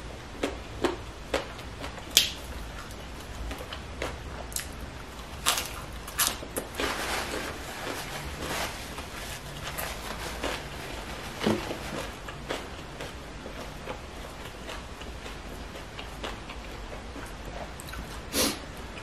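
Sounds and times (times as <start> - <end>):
chewing crisp leafy greens: 0.2 - 19.0.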